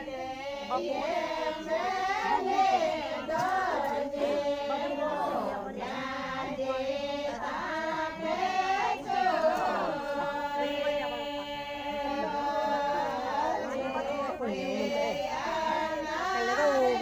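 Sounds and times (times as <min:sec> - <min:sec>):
voices singing a folk song: 0:00.0 - 0:17.0.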